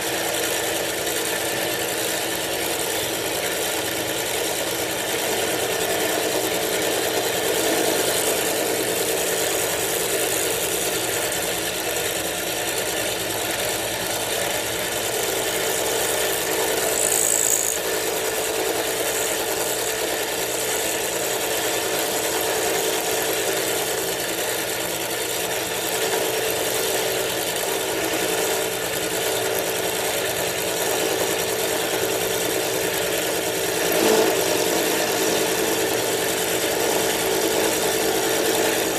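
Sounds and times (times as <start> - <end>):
milling machine running: 0.0 - 38.9.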